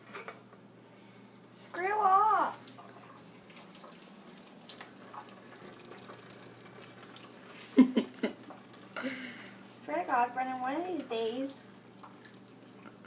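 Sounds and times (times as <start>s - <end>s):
sink tap running: 1.8s - 13.0s.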